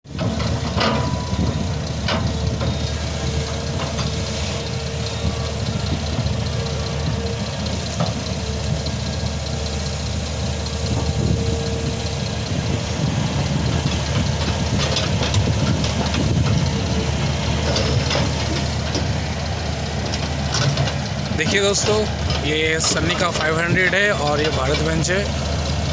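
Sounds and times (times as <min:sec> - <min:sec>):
heavy diesel engines running: 0:00.0 - 0:25.9.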